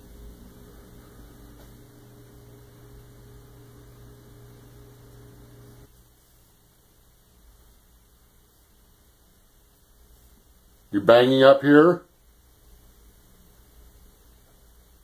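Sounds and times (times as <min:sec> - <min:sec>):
background hiss: 0:00.0 - 0:15.0
low electrical hum: 0:00.0 - 0:15.0.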